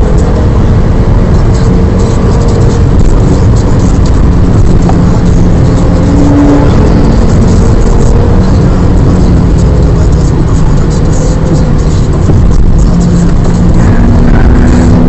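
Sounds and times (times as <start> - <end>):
car engine running hard: 0.0 - 15.0
road and wind noise: 0.0 - 15.0.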